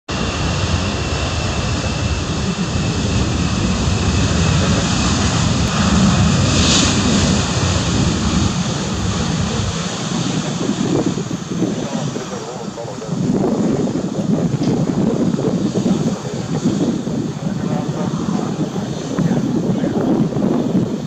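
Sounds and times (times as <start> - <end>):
jet engines roaring on runway: 0.1 - 21.0.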